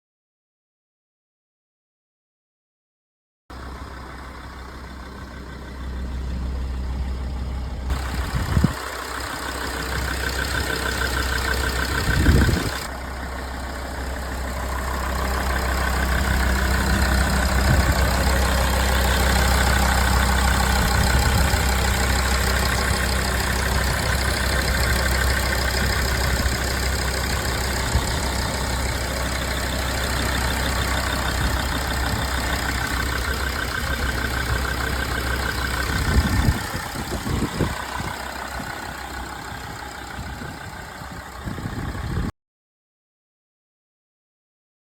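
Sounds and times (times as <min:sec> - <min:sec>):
diesel engine idling: 0:03.5 - 0:42.3.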